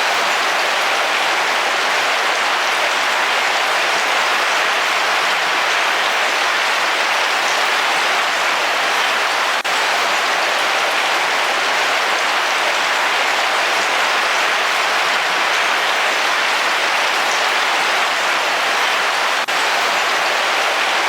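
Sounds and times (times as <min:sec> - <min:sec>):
heavy rain on a roof: 0:00.0 - 0:21.0.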